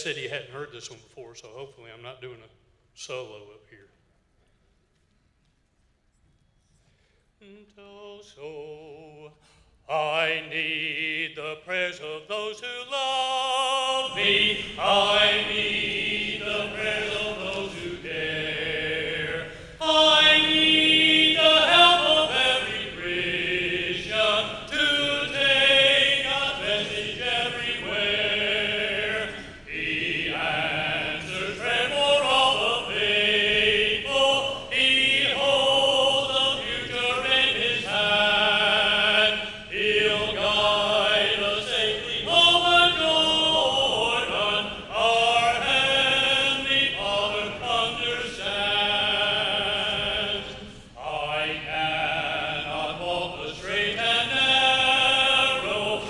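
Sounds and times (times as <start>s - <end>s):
congregation singing a hymn: 7.5s - 56.0s.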